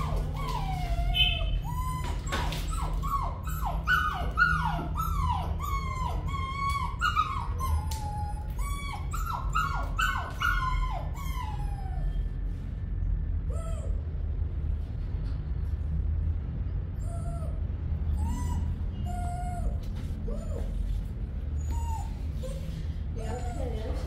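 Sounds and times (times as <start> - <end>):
puppy whining and crying: 0.0 - 12.5, 13.4 - 14.2, 16.9 - 24.0.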